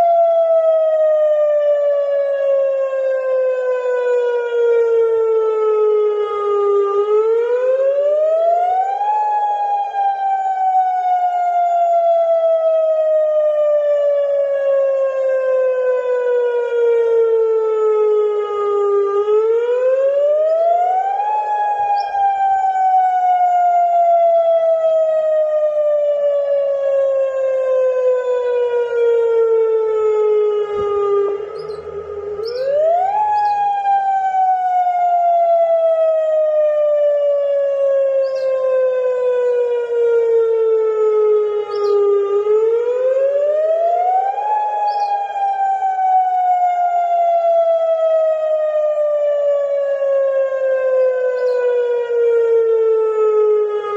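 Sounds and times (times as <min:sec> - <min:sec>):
warning siren wailing: 0:00.0 - 0:53.9.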